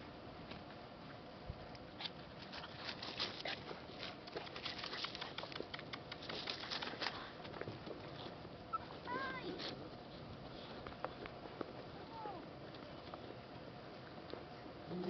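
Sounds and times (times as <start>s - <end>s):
puppies rustling through dry grass: 1.8s - 14.8s.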